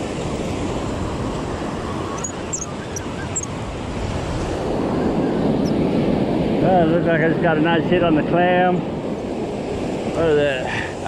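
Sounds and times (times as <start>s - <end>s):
ocean surf washing ashore: 0.0s - 11.0s
wind on microphone: 0.0s - 11.0s.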